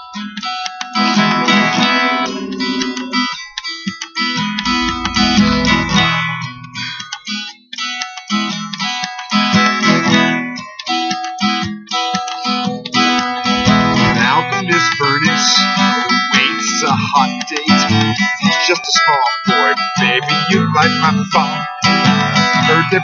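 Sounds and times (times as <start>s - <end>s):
acoustic guitar strumming: 0.2s - 23.0s.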